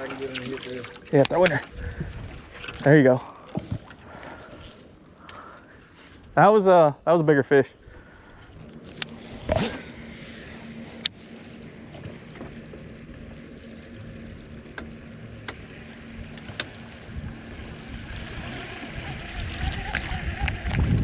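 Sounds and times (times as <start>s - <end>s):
electric motor humming: 0.0s - 6.6s, 8.0s - 21.0s.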